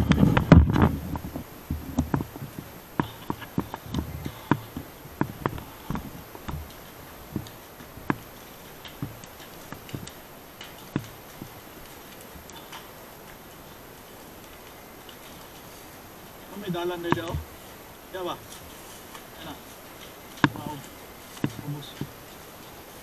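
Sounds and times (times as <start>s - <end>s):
sharp fire pops: 0.0s - 22.8s
burning grass crackling: 0.0s - 23.0s.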